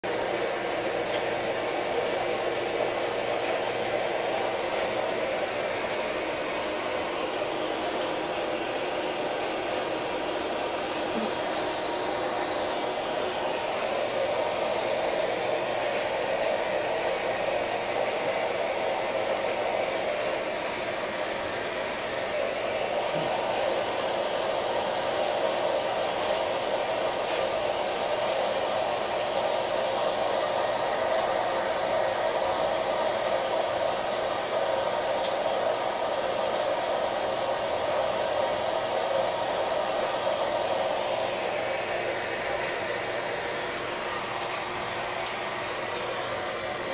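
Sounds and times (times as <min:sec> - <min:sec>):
fan motor humming: 0:00.0 - 0:46.9.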